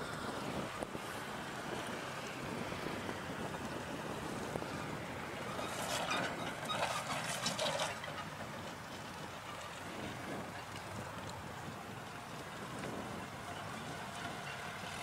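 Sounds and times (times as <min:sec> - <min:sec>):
truck steady rushing noise: 0:00.0 - 0:15.0.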